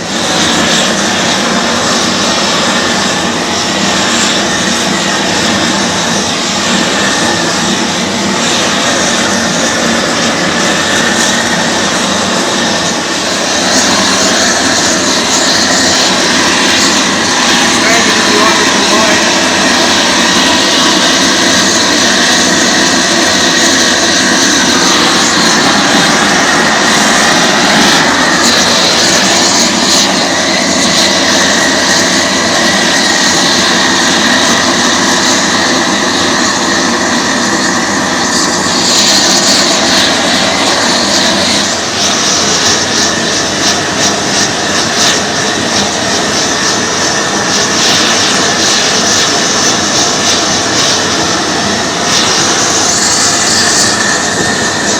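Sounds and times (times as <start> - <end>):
gas torch roaring: 0.0 - 54.9.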